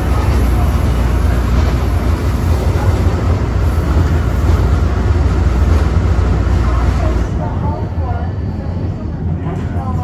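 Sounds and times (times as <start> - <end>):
light-rail car rumbling on track: 0.0 - 10.0.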